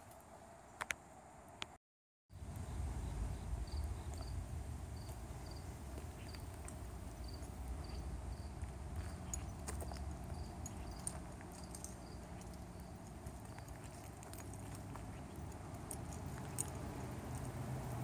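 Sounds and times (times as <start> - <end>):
insect chirping: 2.4 - 17.4.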